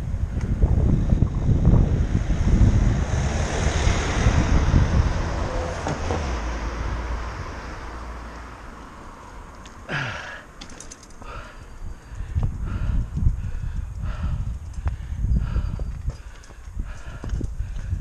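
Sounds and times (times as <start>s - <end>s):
wind on microphone: 0.0s - 8.2s, 11.3s - 18.0s
road noise: 0.0s - 18.0s.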